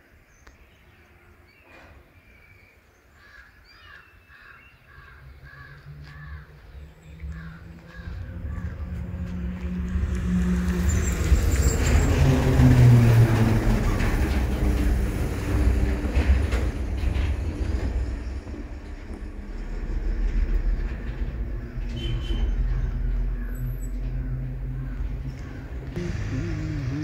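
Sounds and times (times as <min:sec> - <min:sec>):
vehicle engine passing by: 0:05.3 - 0:27.0.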